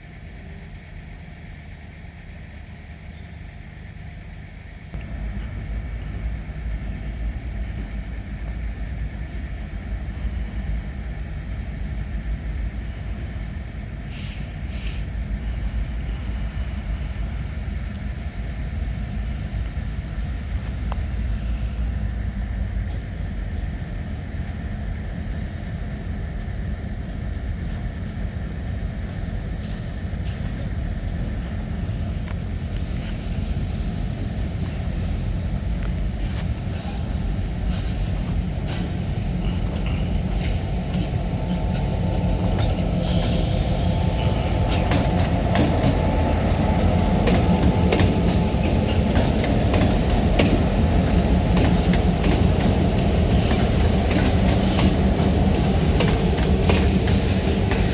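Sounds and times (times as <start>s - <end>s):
diesel locomotive rumbling: 0.0s - 57.9s.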